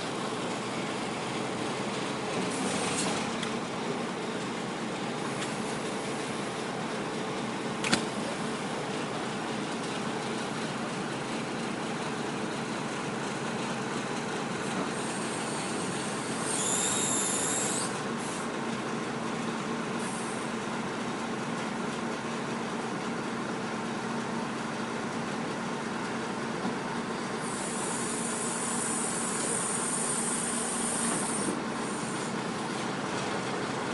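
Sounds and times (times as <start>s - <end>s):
hydraulic crane humming: 0.0s - 33.9s.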